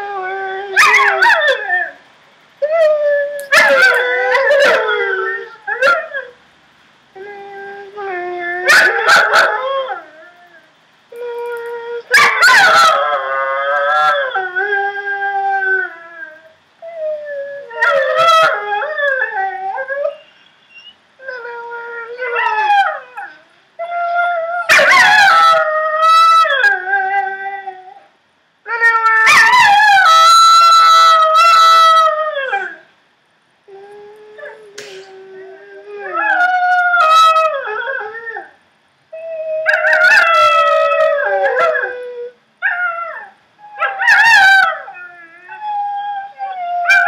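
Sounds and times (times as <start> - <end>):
dogs howling and whining: 0.0 - 6.5, 7.1 - 28.1, 28.7 - 32.9, 33.7 - 47.0.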